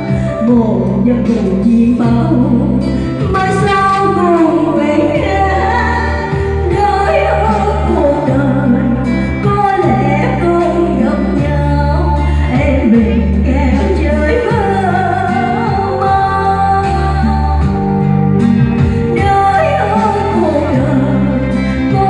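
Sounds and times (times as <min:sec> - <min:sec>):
slow ballad music: 0:00.0 - 0:22.0.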